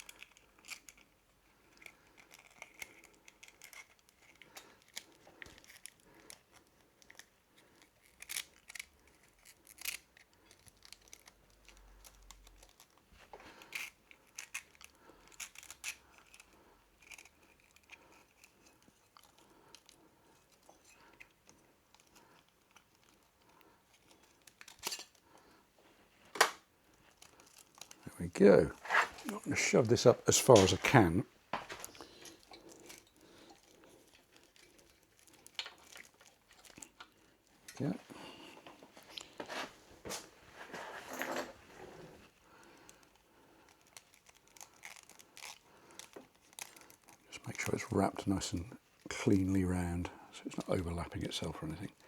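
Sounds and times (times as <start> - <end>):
rustling and scraping of cable sleeving: 0.0 - 52.0.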